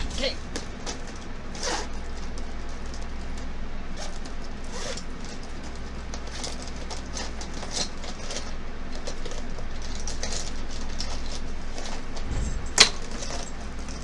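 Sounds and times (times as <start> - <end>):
makeup brushes rustling and clicking: 0.0 - 14.0
steady low hum: 0.0 - 14.0.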